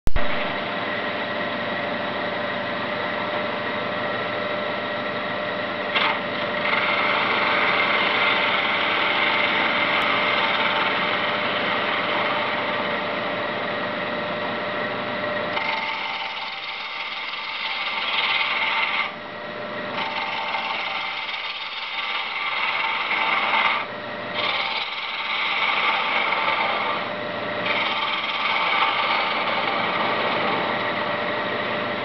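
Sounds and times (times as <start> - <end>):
wood lathe whirring: 0.4 - 32.0.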